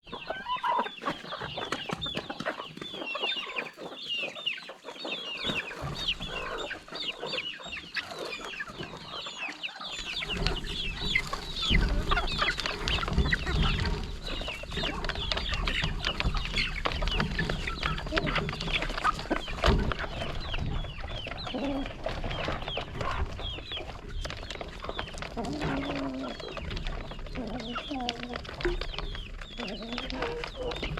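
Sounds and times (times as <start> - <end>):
chickens clucking and calling: 0.0 - 30.9.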